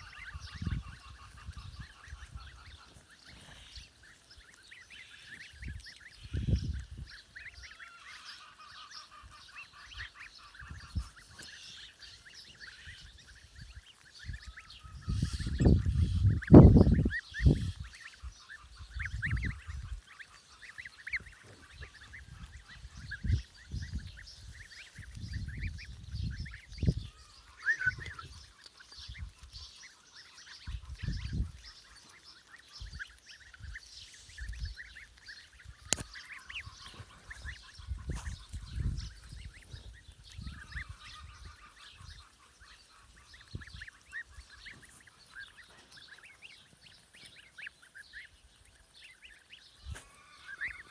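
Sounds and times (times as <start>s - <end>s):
poultry honking and quacking: 0.0s - 50.9s.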